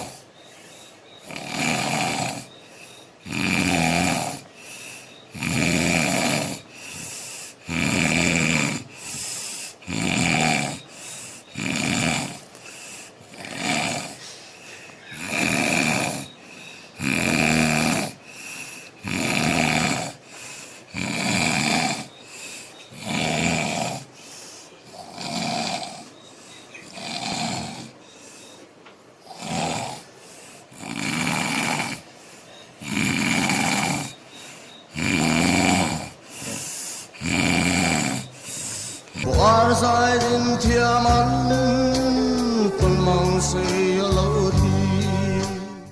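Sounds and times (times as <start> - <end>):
man snoring heavily: 0.0 - 26.2, 26.8 - 28.4, 29.2 - 45.9.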